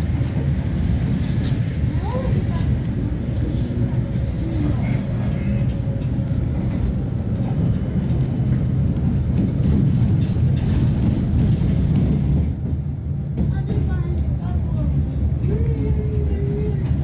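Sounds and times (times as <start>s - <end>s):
tram clattering: 0.0s - 17.0s
tram wheels rumbling on rails: 0.0s - 17.0s.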